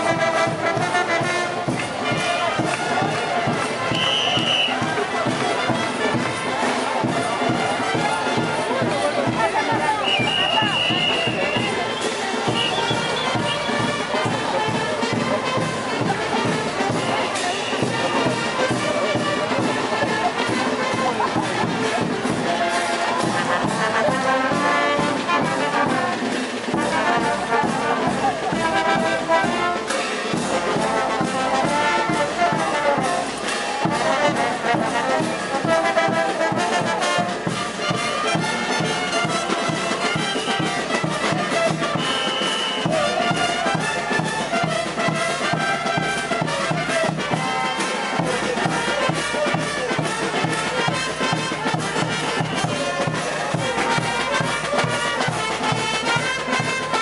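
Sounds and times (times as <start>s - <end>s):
brass band playing: 0.0s - 57.0s
drum beat: 0.0s - 57.0s.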